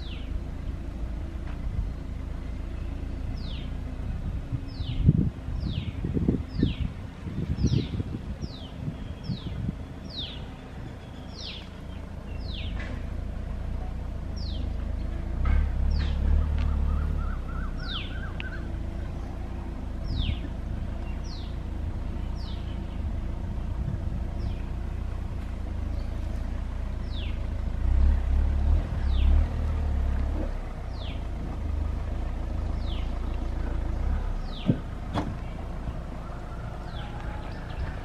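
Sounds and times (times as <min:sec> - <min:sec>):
bird chirping: 0:00.0 - 0:00.8, 0:01.8 - 0:04.0, 0:04.6 - 0:13.1, 0:13.8 - 0:23.6, 0:24.2 - 0:27.7, 0:30.4 - 0:38.0
steady low rumble: 0:00.0 - 0:38.0.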